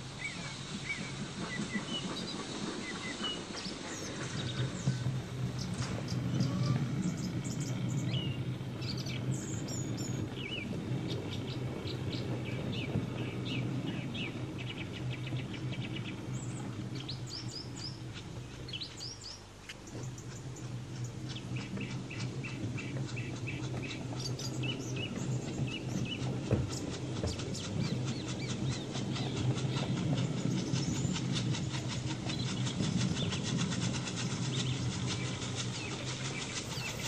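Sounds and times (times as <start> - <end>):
model train wagons rumbling on track: 0.0 - 37.0
birds chirping and singing: 0.2 - 37.0.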